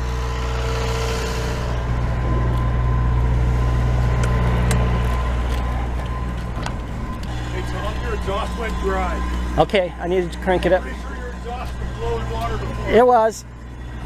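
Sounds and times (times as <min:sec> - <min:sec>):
marine diesel engine running: 0:00.0 - 0:14.0.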